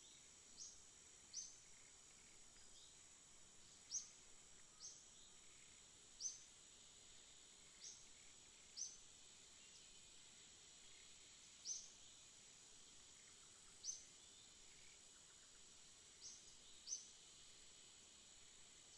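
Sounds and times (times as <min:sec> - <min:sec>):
faint insect hum: 0:00.0 - 0:18.9.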